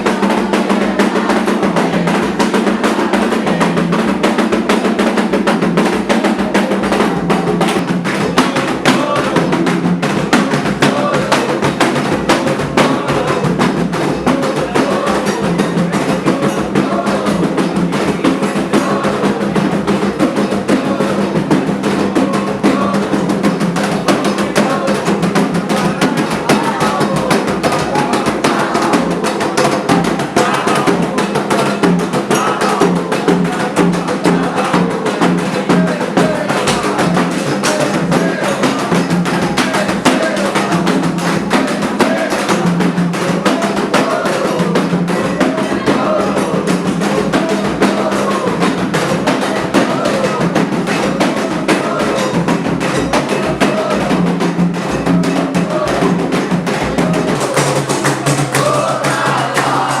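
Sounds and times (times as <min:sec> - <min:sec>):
bell or wood block beat: 0:00.0 - 1:00.0
hand drums rhythm: 0:00.0 - 1:00.0
voices singing: 0:00.0 - 1:00.0.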